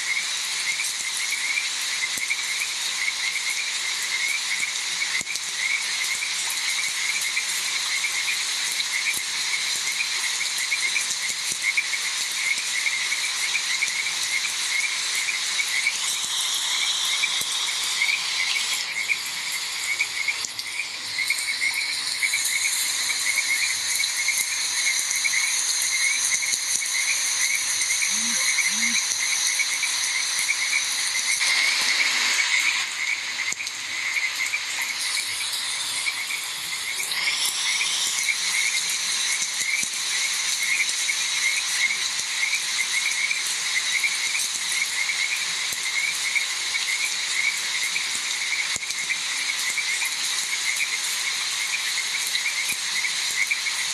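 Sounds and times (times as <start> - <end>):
frogs croaking: 0.0 - 53.9
insects trilling: 0.0 - 53.9
rain hiss: 0.0 - 53.9.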